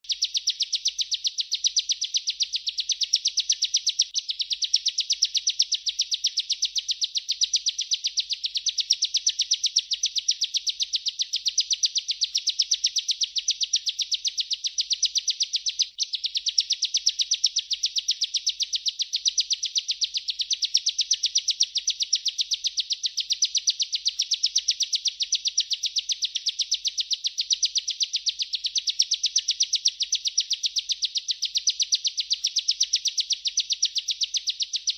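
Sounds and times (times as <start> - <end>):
bird singing rolling song: 0.0 - 34.9.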